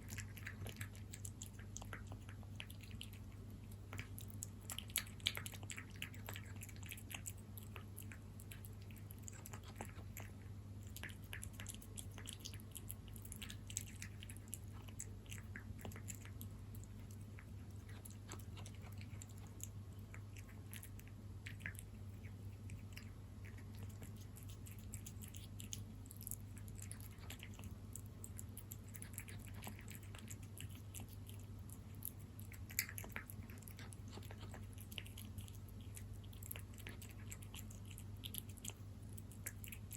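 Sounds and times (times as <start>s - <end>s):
cat chewing wet food: 0.0s - 39.9s.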